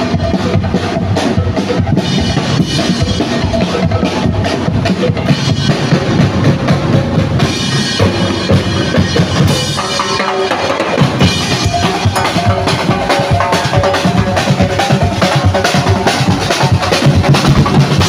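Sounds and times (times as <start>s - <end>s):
music with drum beat: 0.0s - 18.0s.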